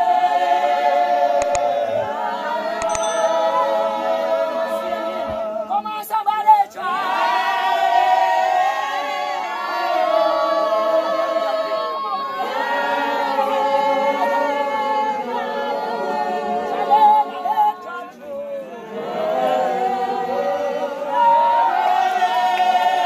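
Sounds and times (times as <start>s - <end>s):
congregation singing unaccompanied: 0.0s - 23.0s.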